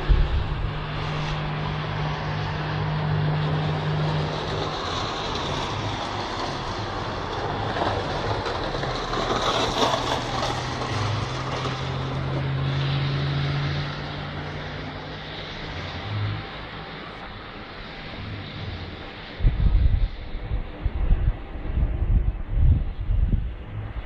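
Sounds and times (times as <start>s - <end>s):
road repair machinery noise: 0.0s - 22.4s
engine hum: 0.0s - 24.0s.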